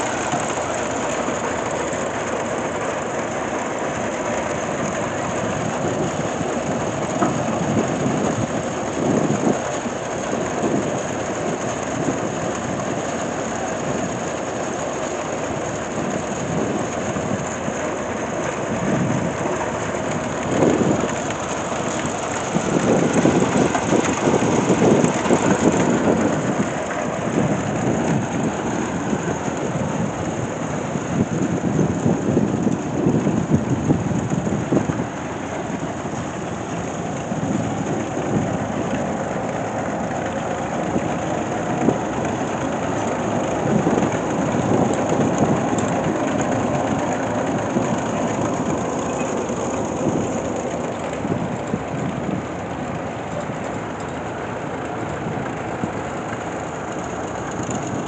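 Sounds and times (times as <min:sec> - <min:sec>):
heavy machinery clattering: 0:00.0 - 0:58.0.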